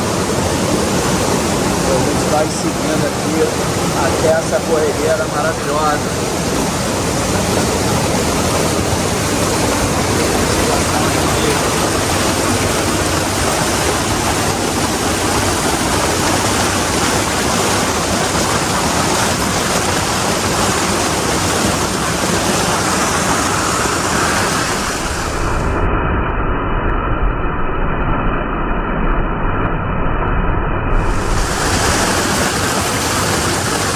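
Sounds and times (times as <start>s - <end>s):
river rapids rushing: 0.0s - 25.8s, 31.0s - 33.9s.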